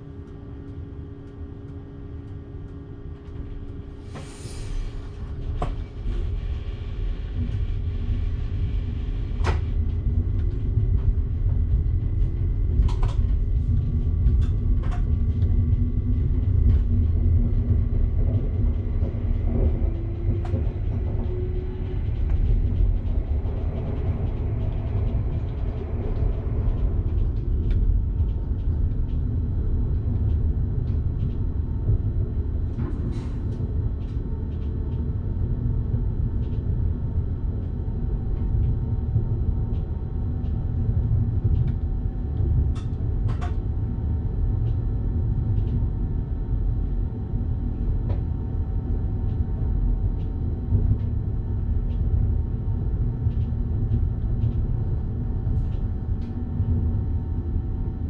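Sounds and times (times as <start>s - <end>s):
train rumbling on track: 2.3s - 58.0s.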